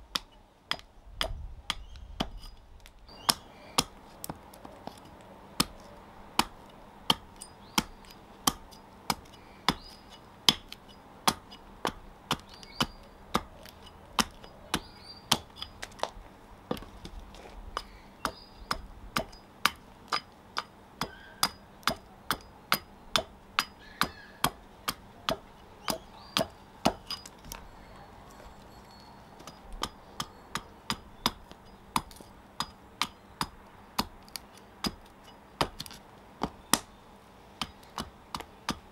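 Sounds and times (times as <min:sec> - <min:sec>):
axe chopping wood: 0:00.1 - 0:02.5, 0:03.1 - 0:27.5, 0:29.4 - 0:37.0, 0:37.6 - 0:38.9.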